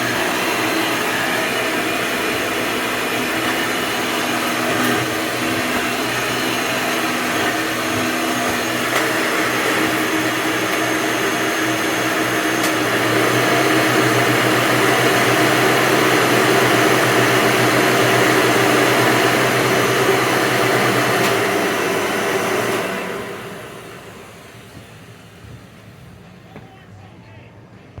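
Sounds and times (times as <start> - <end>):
upright vacuum cleaner running: 0.0 - 26.8.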